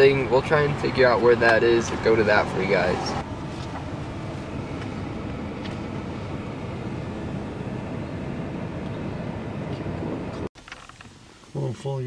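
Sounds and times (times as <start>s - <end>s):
road and engine noise: 0.0s - 12.0s.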